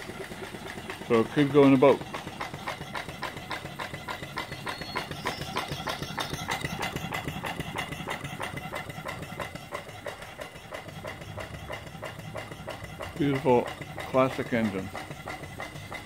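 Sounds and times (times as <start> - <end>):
steam engine beating: 0.0 - 16.0.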